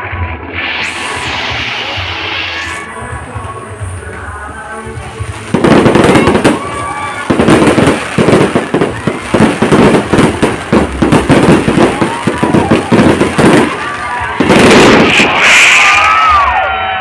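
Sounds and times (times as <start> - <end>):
people's voices: 0.0 - 17.0
fireworks bangs and crackles: 0.5 - 16.6.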